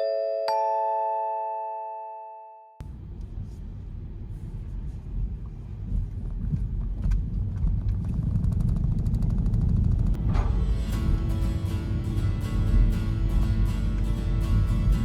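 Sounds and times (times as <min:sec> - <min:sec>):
low steady rumble: 0:02.8 - 0:15.0.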